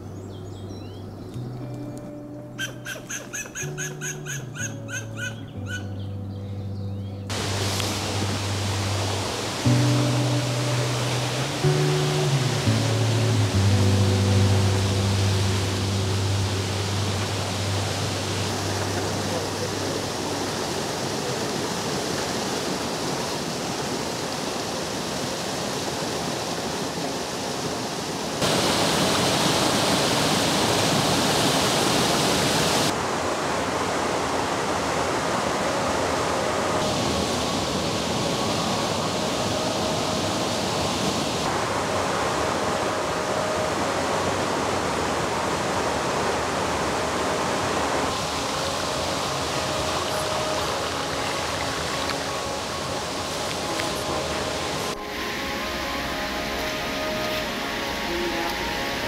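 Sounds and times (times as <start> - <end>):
river water rushing: 0.0 - 5.9, 7.3 - 59.0.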